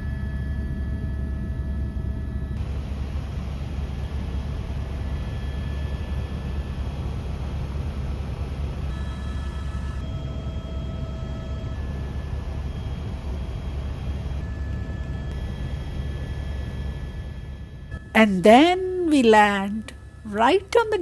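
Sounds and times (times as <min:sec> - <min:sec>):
faint high whine: 0:00.0 - 0:21.0
helicopter rotor and engine drone: 0:00.0 - 0:21.0.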